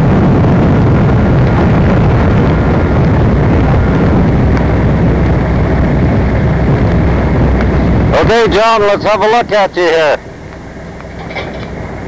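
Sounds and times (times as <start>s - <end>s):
loud low rumbling noise: 0.0s - 12.0s.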